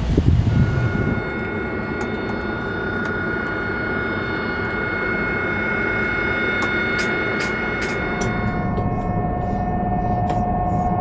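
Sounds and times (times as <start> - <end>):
jet engine whine: 0.0 - 11.0.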